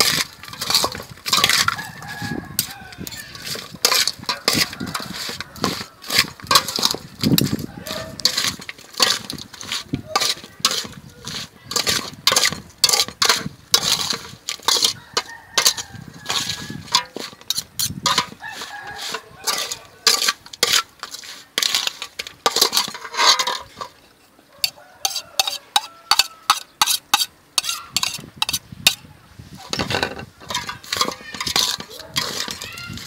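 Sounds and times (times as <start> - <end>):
dishes and utensils clinking: 0.0 - 33.0.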